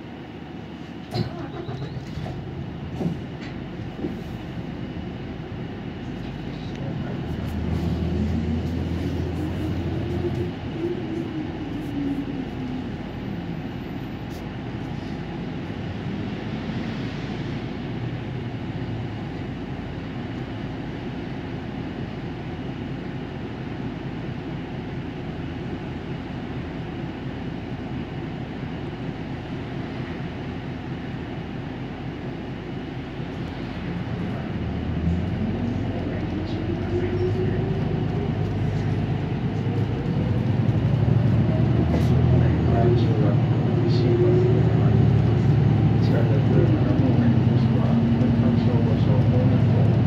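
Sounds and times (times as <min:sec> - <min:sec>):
bus engine and road noise: 0:00.0 - 0:50.0.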